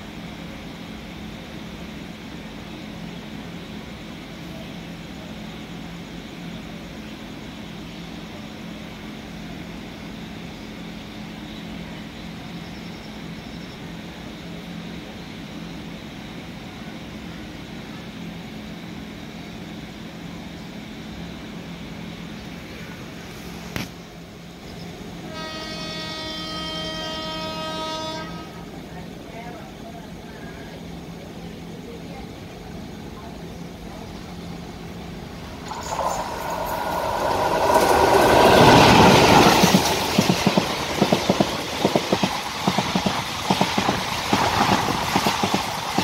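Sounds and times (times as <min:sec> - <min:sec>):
stationary train humming: 0:00.0 - 0:46.0.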